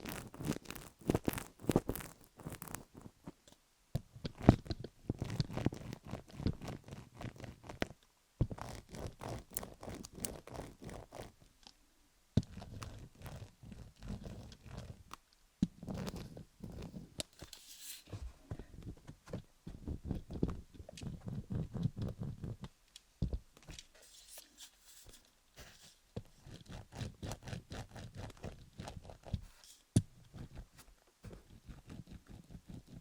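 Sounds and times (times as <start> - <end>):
scratching on a microphone: 0.0 - 3.4, 4.2 - 11.4, 12.4 - 15.0, 15.8 - 22.7, 24.0 - 33.0.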